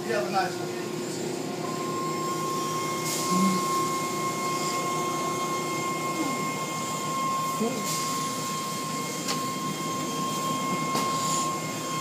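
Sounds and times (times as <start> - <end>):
car wash machinery drone: 0.0 - 12.0.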